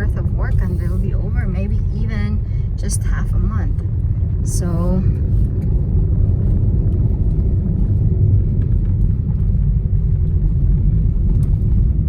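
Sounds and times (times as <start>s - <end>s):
car driving on paved road: 0.0s - 12.0s.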